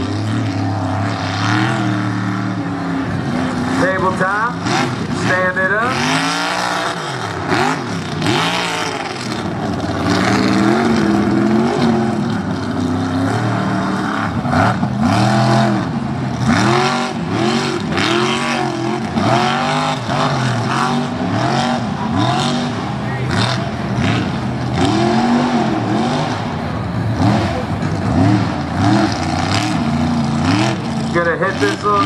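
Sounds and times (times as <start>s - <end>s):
truck engine revving hard: 0.0s - 32.0s.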